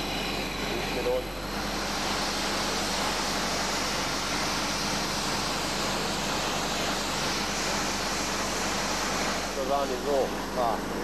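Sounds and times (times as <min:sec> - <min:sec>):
pressure washer spray hissing on wall: 0:01.4 - 0:10.8.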